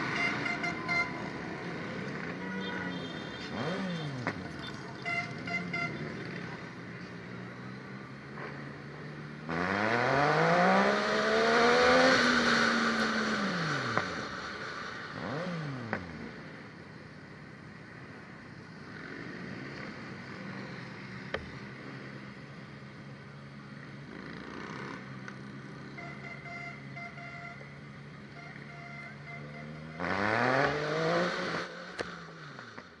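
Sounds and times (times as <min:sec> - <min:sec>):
vehicle engine idling and revving: 0:00.0 - 0:33.0.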